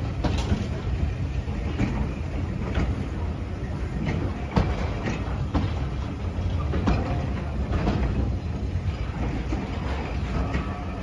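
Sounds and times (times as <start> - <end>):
train coaches rumbling: 0.0 - 11.0.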